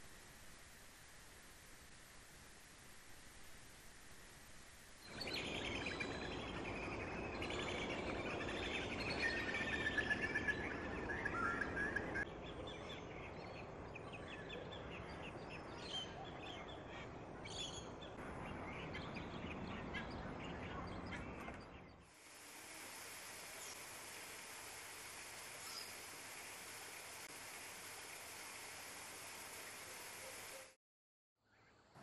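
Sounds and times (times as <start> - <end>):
outdoor background hiss: 0.0 - 20.8, 22.0 - 30.8.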